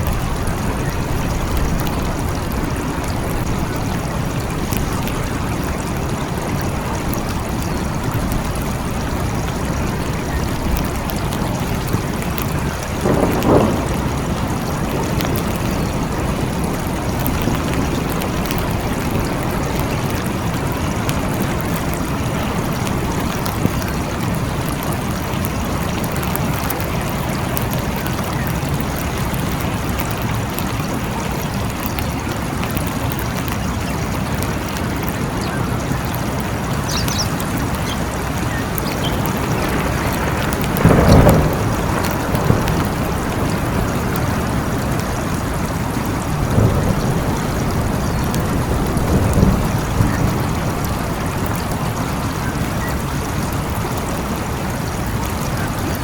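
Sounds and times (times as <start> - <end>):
heavy rain in forest: 0.0 - 56.0.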